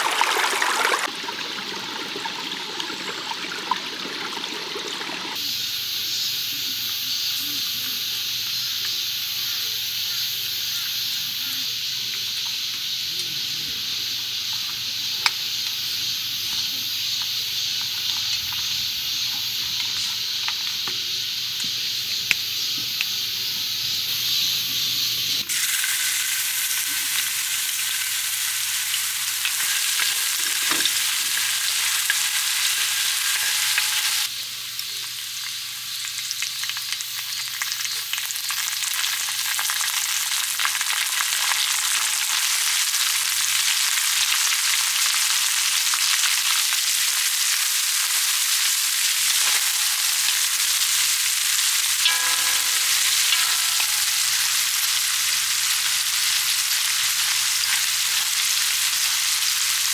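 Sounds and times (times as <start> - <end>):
food sizzling in a hot pan: 4.1 - 59.9.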